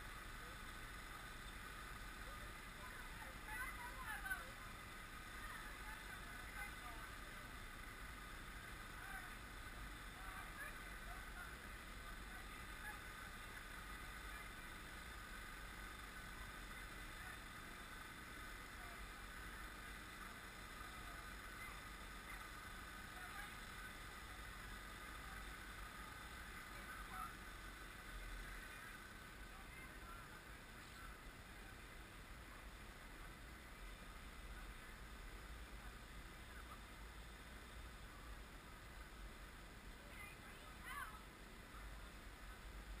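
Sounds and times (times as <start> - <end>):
faint background hum and hiss: 0.0 - 43.0.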